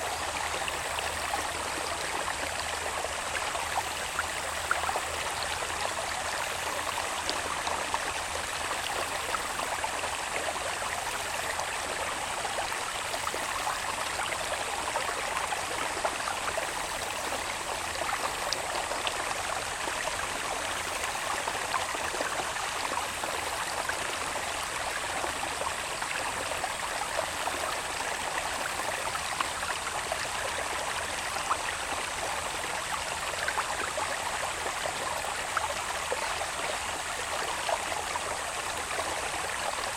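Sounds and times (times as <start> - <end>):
water babbling in channel: 0.0 - 39.9.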